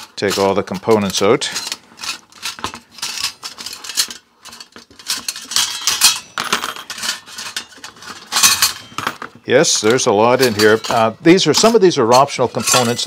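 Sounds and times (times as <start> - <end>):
metal parts clinking against strainer: 0.0 - 13.0.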